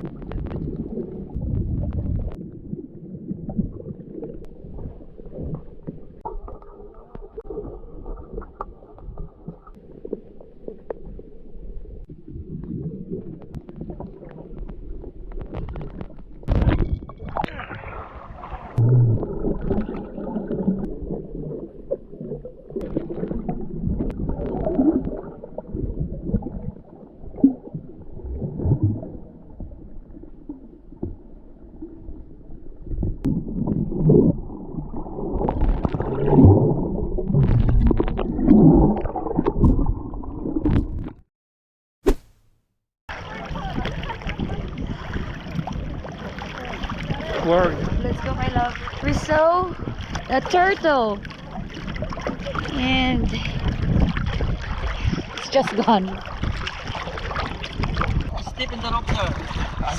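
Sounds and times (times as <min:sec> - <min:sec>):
underwater gurgling water: 0:00.0 - 0:41.2, 0:43.1 - 0:59.9
water splashes: 0:00.0 - 0:41.2, 0:43.1 - 0:59.9.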